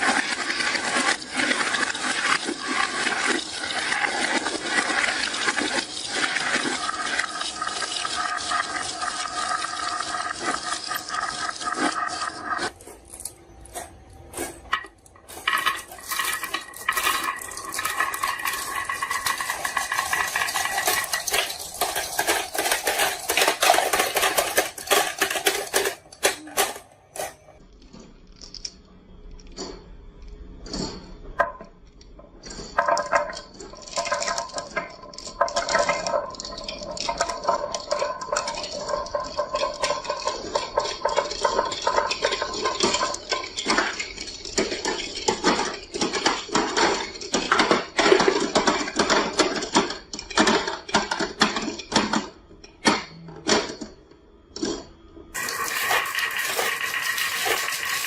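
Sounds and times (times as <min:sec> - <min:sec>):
marbles rolling and clacking: 0:00.0 - 0:14.0, 0:14.6 - 0:58.0.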